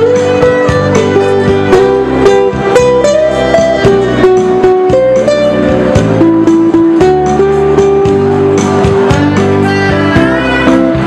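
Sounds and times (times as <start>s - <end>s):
lead melody of long held notes: 0.0s - 11.0s
nylon-string guitar strummed: 0.0s - 11.0s.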